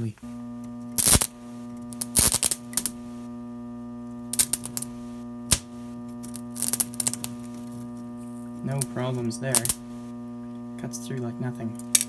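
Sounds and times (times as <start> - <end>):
electric arc crackling: 0.0 - 12.0
transformer humming: 0.0 - 12.0.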